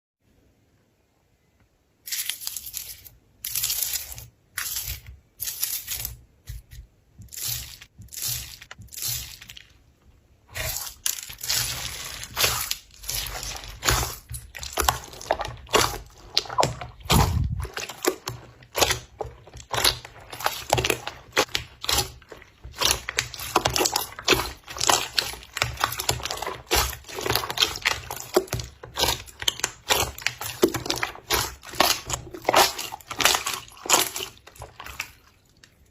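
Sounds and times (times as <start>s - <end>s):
slime squishing: 2.1s - 35.9s.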